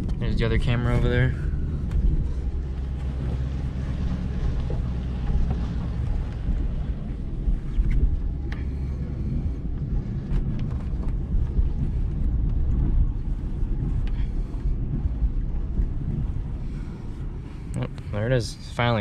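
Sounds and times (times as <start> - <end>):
tow vehicle engine rumbling: 0.0 - 19.0.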